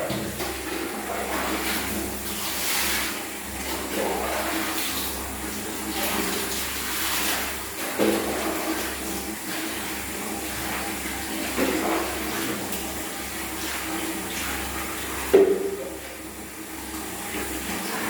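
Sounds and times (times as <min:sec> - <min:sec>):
running water splashing: 0:00.0 - 0:18.0.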